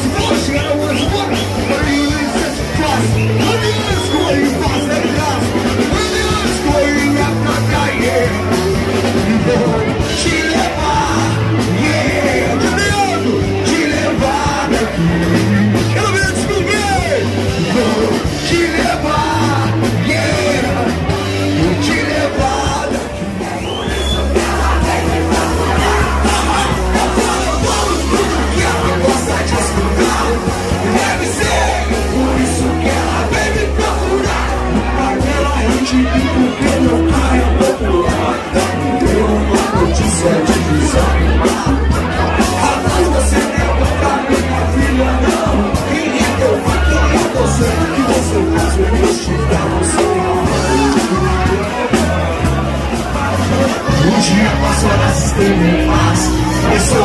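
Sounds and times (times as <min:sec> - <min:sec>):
live rock band: 0:00.0 - 0:57.0
person singing: 0:00.0 - 0:57.0.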